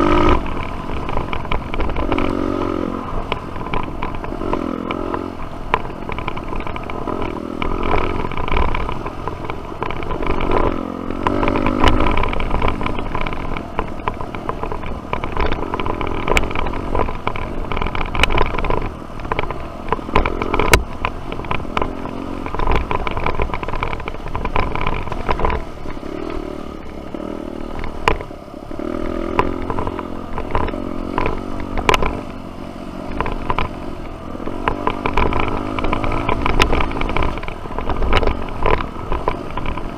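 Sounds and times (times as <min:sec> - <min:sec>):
bike knocks and rattles: 0:00.0 - 0:39.9
dirt bike engine revving: 0:00.0 - 0:39.9.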